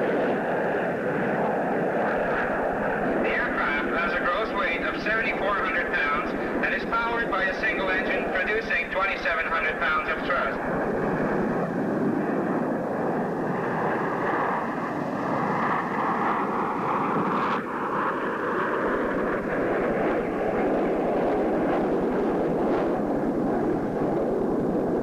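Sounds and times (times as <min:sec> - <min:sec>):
jets flying by roaring: 0:00.0 - 0:25.0.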